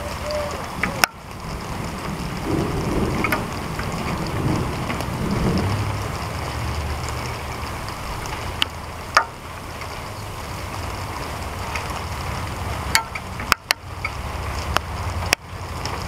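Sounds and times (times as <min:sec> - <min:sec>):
distant thunder rumble: 0:00.0 - 0:15.8
wind and rain hiss: 0:00.0 - 0:16.0.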